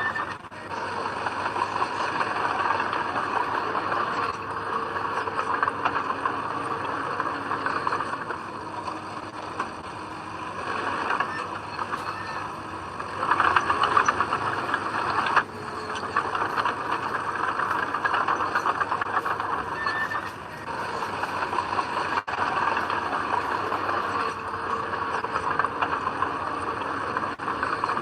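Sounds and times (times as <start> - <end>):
heavy diesel machinery rattling: 0.0 - 28.0.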